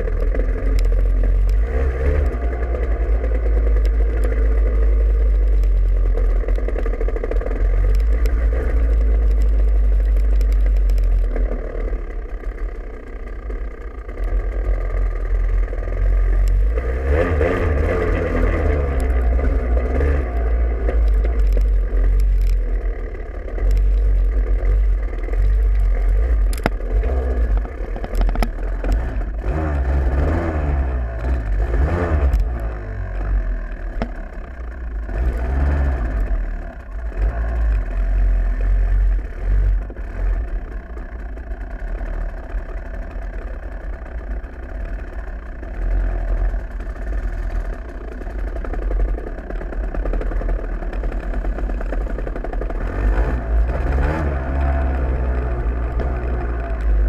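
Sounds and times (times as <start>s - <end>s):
dirt bike engine revving: 0.0s - 12.5s, 14.1s - 43.2s, 44.8s - 57.0s
constant low rumble: 0.0s - 57.0s.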